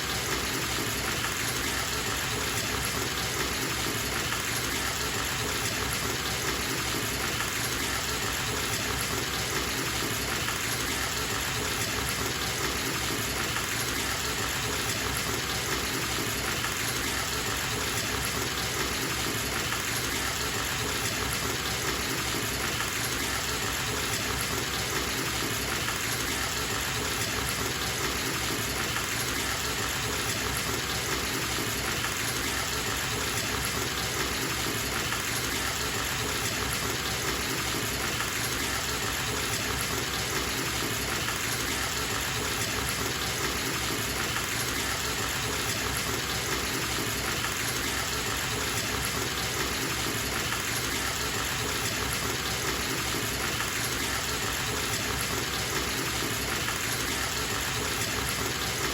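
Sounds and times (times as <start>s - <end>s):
tap water gushing into tub: 0.0s - 58.9s.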